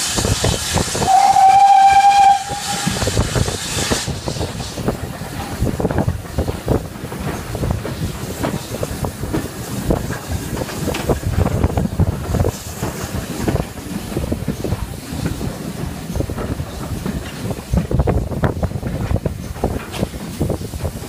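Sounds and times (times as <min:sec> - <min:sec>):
train rumble: 0:00.0 - 0:21.0
train wheels knocking on rail joints: 0:00.0 - 0:21.0
wind buffeting microphone: 0:00.0 - 0:21.0.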